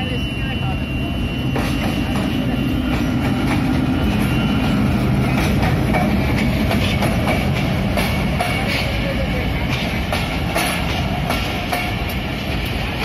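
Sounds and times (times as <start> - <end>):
locomotive engine droning: 0.0 - 13.0
wheels clacking over rail joints: 1.5 - 13.0.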